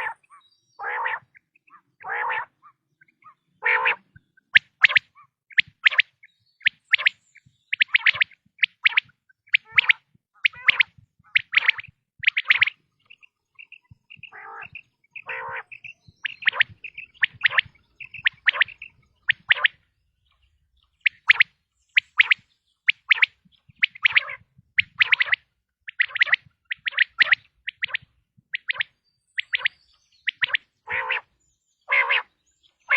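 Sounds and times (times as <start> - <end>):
quail calling: 0.0 - 19.9, 21.0 - 31.3, 31.9 - 32.9.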